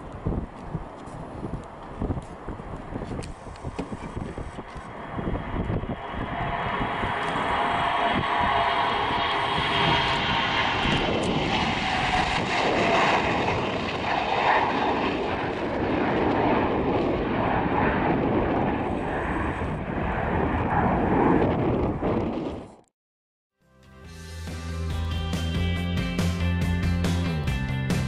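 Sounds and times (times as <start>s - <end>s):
jet engine roar: 0.0s - 22.9s.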